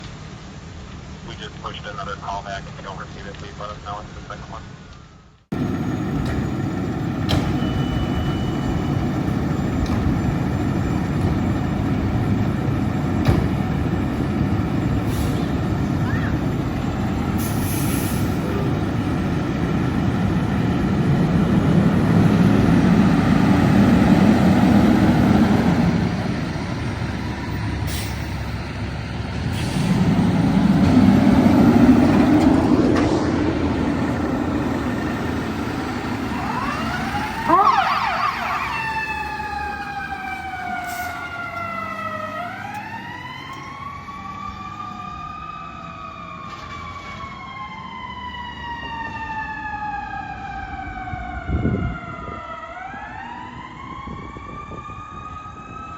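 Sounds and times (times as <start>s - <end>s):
diesel engines rumbling: 0.0s - 55.9s
fire truck siren wailing: 5.5s - 55.9s.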